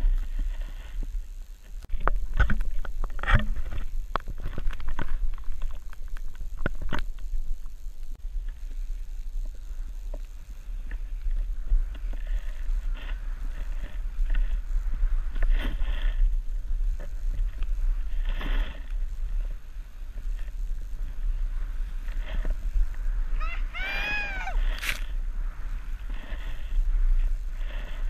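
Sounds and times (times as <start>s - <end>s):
wind buffeting camera microphone: 0.0s - 28.0s.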